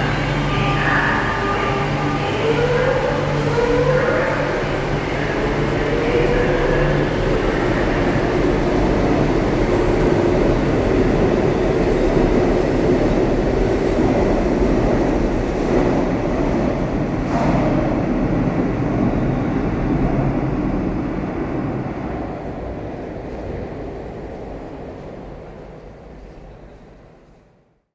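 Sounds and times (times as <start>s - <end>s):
metro train rumbling: 0.0s - 27.9s.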